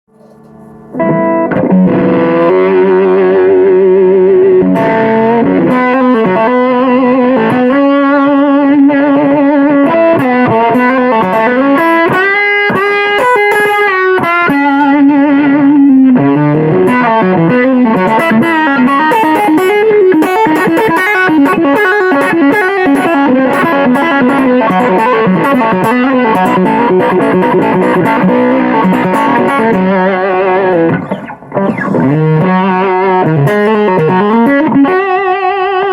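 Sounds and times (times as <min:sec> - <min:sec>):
overdriven electric guitar lead: 0:00.1 - 0:35.9.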